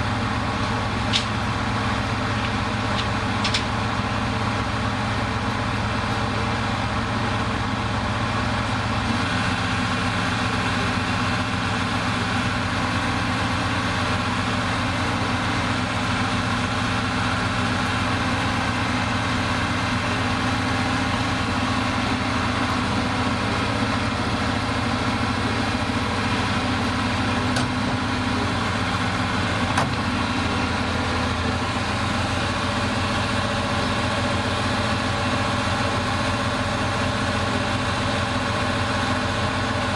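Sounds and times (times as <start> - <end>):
bulldozer diesel engine idling: 0.0 - 39.9.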